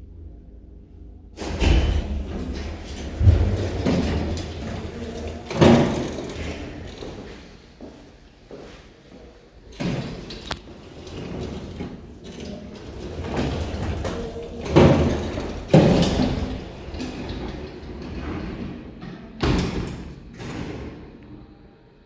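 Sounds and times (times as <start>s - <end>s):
elevator doors thudding: 1.3s - 7.6s, 9.6s - 21.4s
elevator sliding doors: 1.3s - 8.1s, 9.6s - 21.6s.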